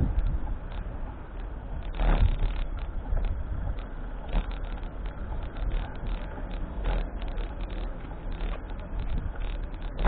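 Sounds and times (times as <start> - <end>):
traffic noise: 0.0 - 10.0
wind rumbling on microphone: 0.0 - 10.0.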